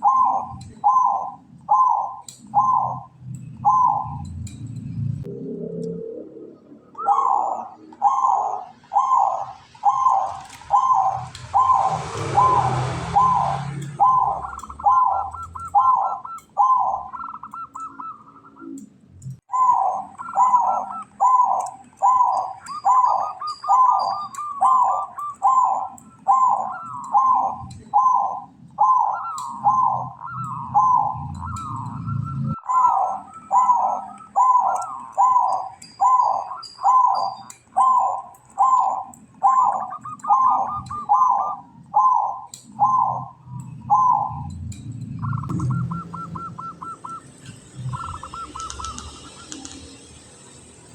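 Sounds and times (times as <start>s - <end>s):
dove cooing: 0.0s - 4.6s, 5.2s - 18.8s, 19.5s - 50.0s
faint high bird chirps: 0.0s - 50.9s.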